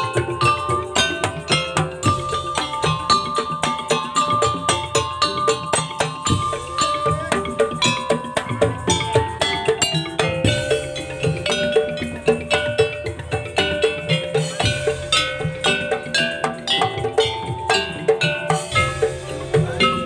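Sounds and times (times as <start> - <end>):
drums: 0.0 - 20.0.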